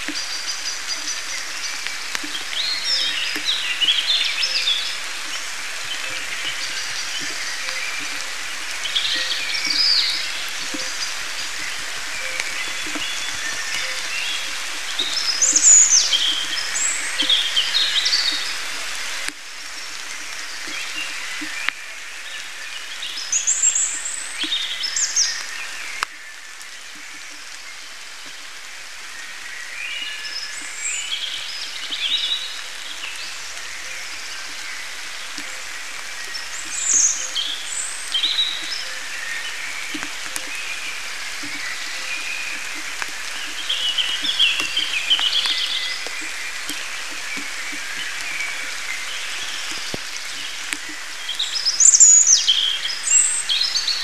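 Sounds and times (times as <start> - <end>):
rain falling in forest: 0.0 - 54.0
songbirds singing: 0.0 - 54.0.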